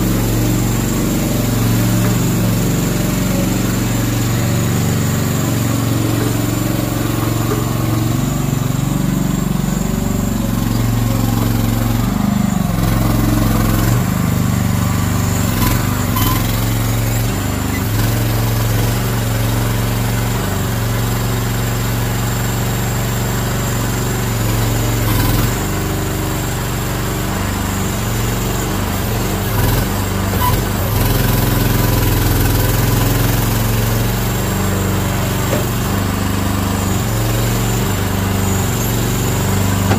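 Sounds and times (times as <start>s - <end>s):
petrol engine running: 0.0s - 39.9s.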